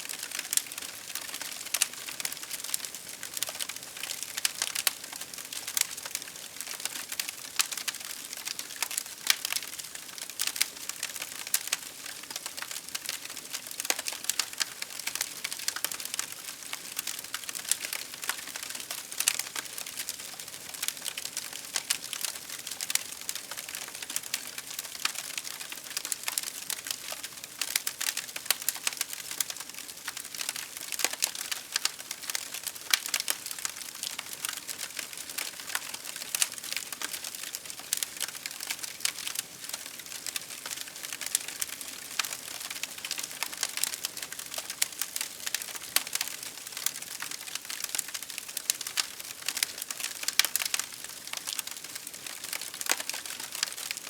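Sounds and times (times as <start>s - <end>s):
wood fire crackling and popping: 0.1s - 54.0s.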